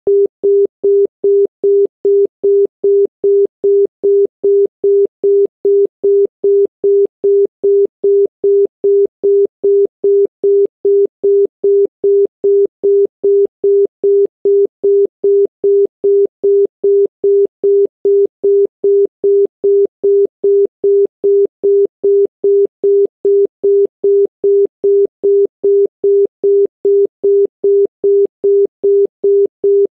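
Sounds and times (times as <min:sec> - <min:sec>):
telephone dial tone beeping: 0:00.1 - 0:29.9.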